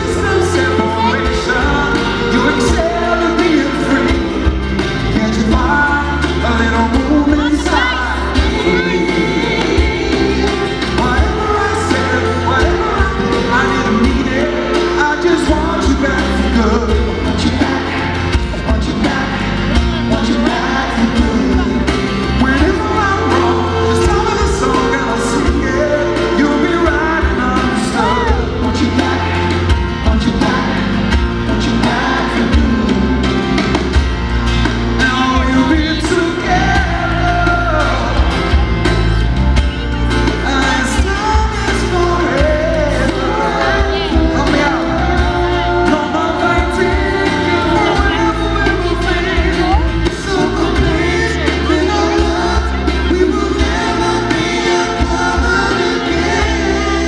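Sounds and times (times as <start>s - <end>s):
live pop band playing a ballad: 0.0s - 57.0s
man singing lead vocal: 0.0s - 57.0s.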